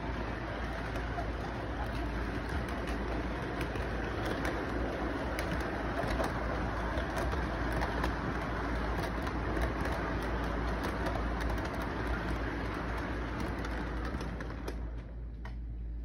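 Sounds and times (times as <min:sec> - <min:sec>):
model train rumbling on track: 0:00.0 - 0:15.2
wheel clicks on track: 0:00.0 - 0:15.6.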